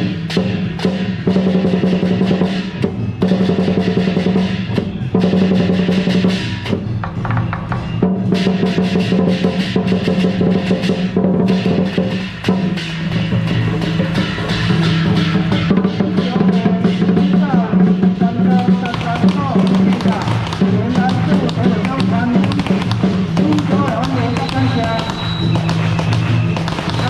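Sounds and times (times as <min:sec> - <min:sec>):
clashing metal percussion: 0:00.0 - 0:27.0
large drum rolls: 0:00.0 - 0:27.0.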